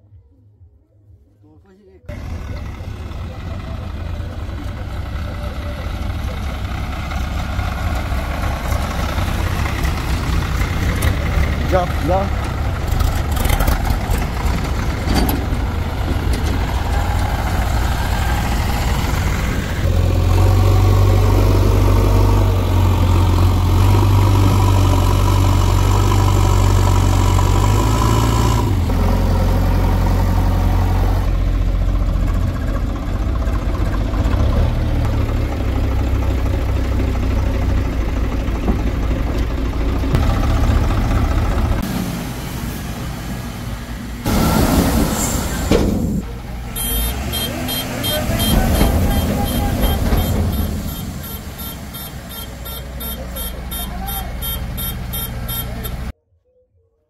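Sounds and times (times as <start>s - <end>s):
heavy diesel engine running: 2.1s - 56.1s.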